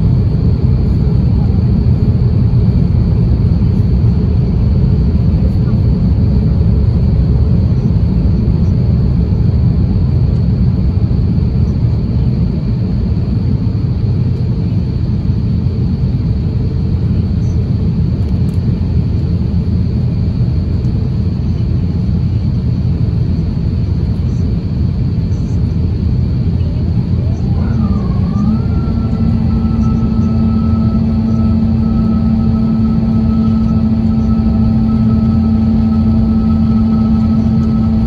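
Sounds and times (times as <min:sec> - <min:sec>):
airliner cabin rumble: 0:00.0 - 0:38.0
faint high whine: 0:00.0 - 0:38.0.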